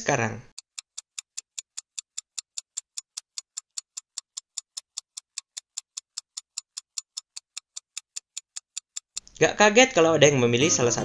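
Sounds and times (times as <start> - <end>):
fast clock ticking: 0.4 - 10.1.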